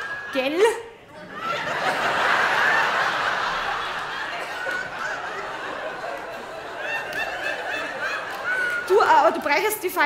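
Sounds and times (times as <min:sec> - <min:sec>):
audience laughing: 0:01.1 - 0:10.0.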